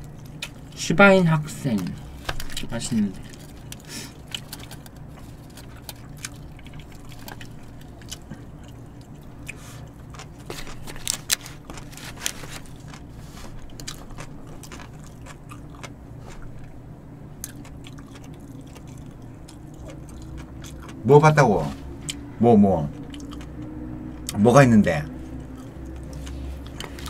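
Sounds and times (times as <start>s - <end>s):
people chewing and crunching: 0.0s - 22.3s, 22.9s - 27.0s
steady low hum: 0.0s - 27.0s.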